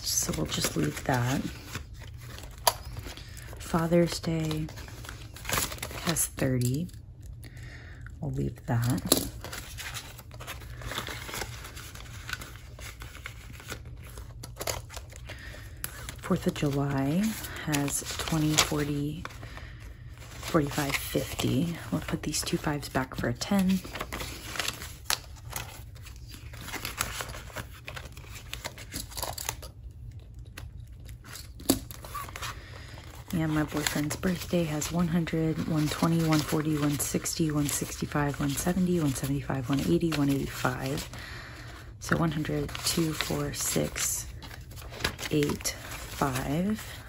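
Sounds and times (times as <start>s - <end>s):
paper money rustling: 0.0s - 6.9s, 8.7s - 29.7s, 30.5s - 47.0s.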